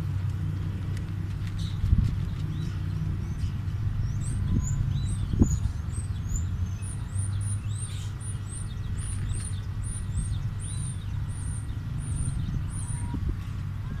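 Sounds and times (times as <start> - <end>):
steady low rumble: 0.0 - 14.0
small birds chirping: 1.4 - 14.0.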